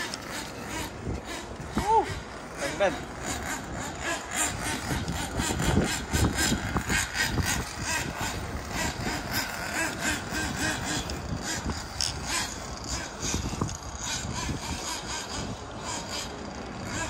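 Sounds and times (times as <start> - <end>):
small engine running unevenly: 0.0 - 17.0.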